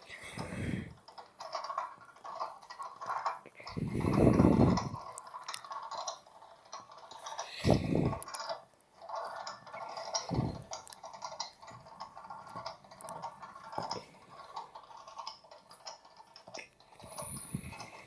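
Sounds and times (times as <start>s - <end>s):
washing machine clicking and rattling: 0.0s - 18.0s.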